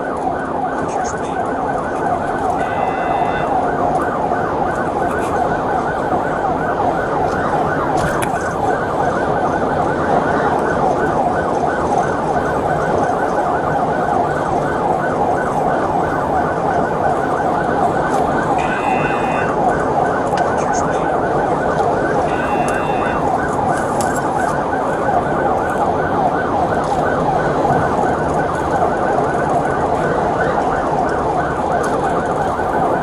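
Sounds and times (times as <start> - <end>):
police siren yelping: 0.0 - 33.0
road and engine noise: 0.0 - 33.0.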